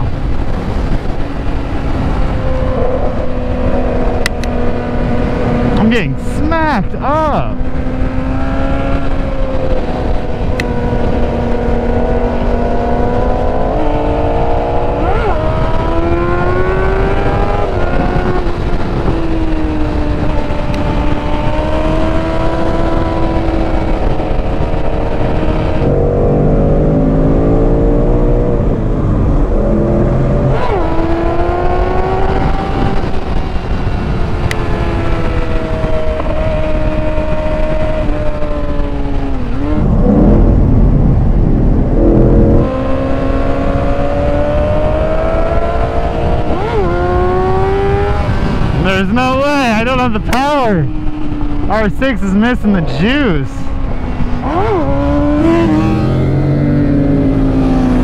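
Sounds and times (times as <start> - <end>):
motorcycle engine revving: 0.0 - 52.0, 52.7 - 58.0
wind rushing: 0.0 - 58.0.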